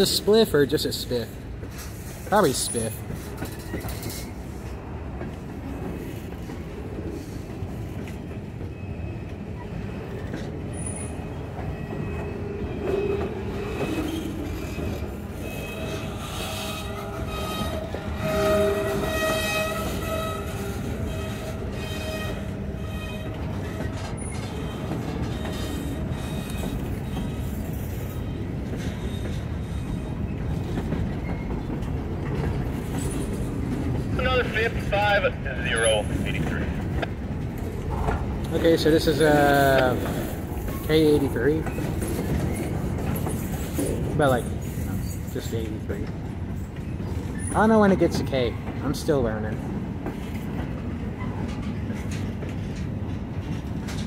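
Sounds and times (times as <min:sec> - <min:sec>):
freight cars rolling on rails: 0:00.0 - 0:54.0.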